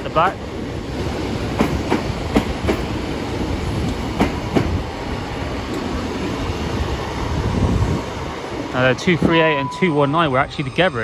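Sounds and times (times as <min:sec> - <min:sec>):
diesel train rumbling past: 0:00.0 - 0:11.0.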